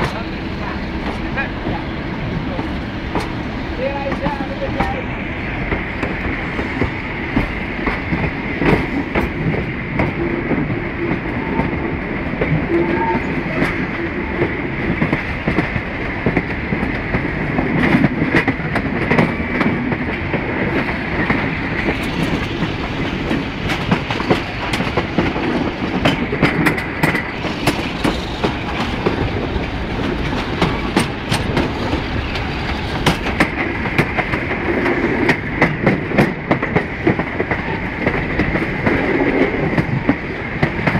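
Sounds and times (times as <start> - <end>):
train running noise: 0.0 - 40.9.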